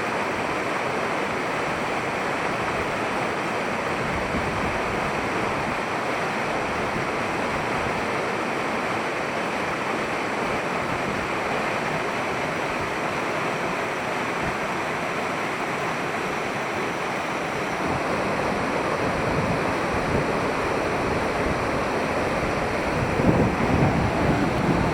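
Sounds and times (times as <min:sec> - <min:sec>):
waterfall roaring: 0:00.0 - 0:24.9.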